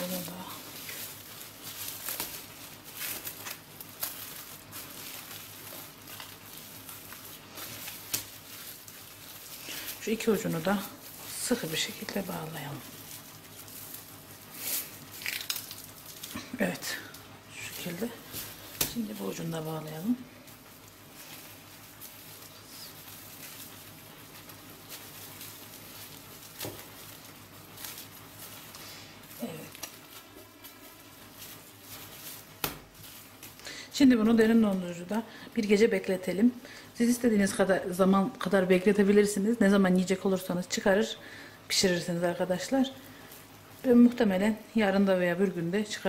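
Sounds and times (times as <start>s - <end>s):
low steady hum: 0.0s - 46.0s
plastic cling film crinkling: 0.0s - 46.0s.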